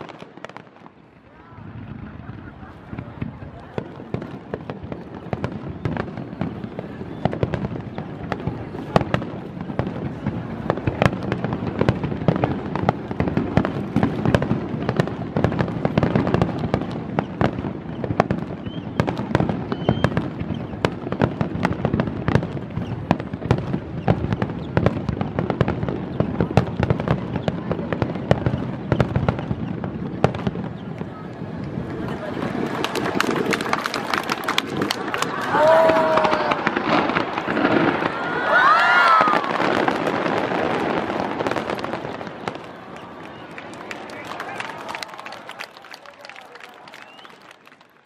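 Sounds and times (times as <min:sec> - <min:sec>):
fireworks bursting: 0:00.0 - 0:48.0.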